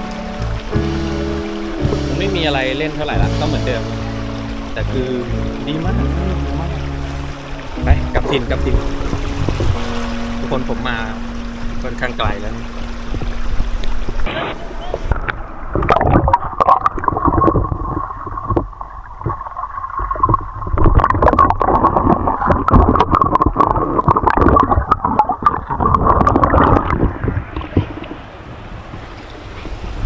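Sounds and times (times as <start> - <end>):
stream rushing: 0.0 - 30.0
water gurgling and splashing: 0.0 - 30.0.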